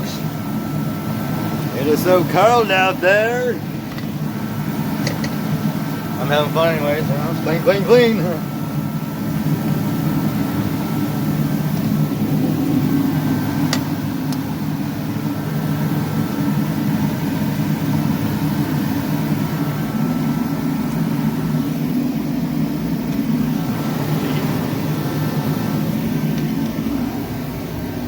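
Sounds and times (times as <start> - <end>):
low mechanical drone: 0.0 - 28.0.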